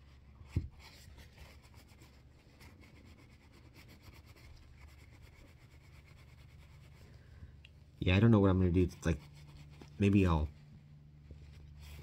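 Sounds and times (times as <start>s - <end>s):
light rubbing and scratching: 0.0s - 7.3s, 8.2s - 12.0s.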